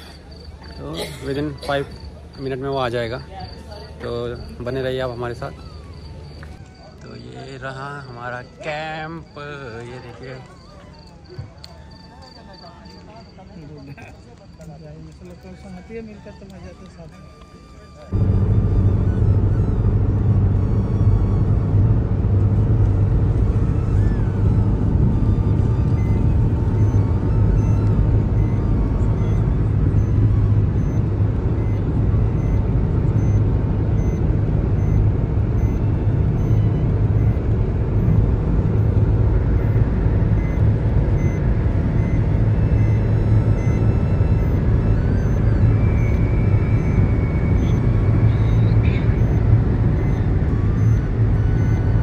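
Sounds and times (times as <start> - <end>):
car road and engine noise: 0.0 - 12.3, 17.2 - 52.0.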